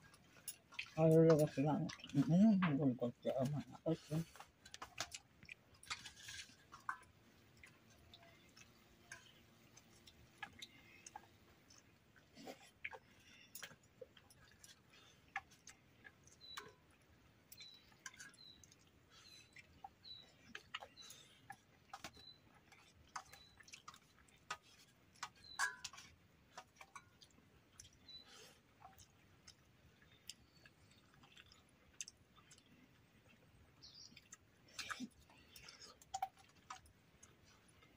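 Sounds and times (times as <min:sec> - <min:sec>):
quiet chewing: 0:00.0 - 0:37.9.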